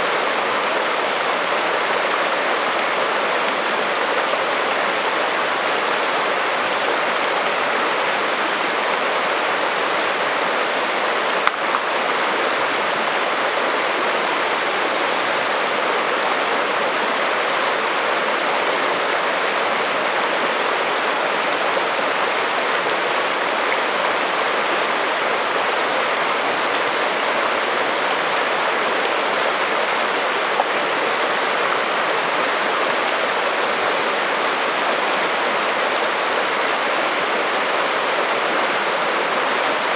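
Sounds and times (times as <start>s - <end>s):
creek water babbling over rocks: 0.0s - 39.9s.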